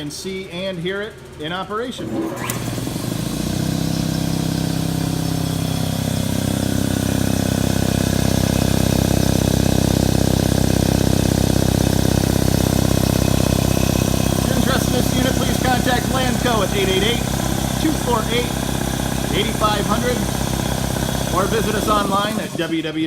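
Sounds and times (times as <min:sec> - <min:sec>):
air compressor running: 0:00.0 - 0:23.0.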